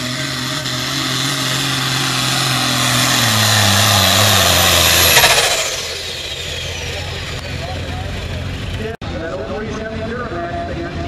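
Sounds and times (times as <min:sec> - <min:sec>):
high turbo whine: 0:00.0 - 0:09.0
diesel tractor engine at full throttle: 0:00.0 - 0:11.0.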